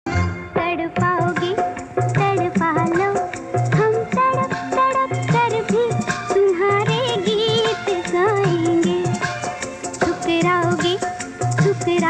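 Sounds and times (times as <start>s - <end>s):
film song music: 0.0s - 11.9s
tabla-like drum pattern: 0.1s - 12.0s.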